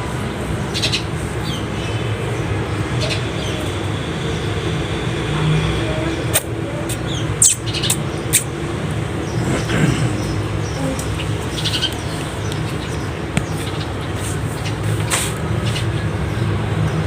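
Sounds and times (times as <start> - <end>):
sparrows chirping: 0.2 - 4.8, 6.3 - 17.0.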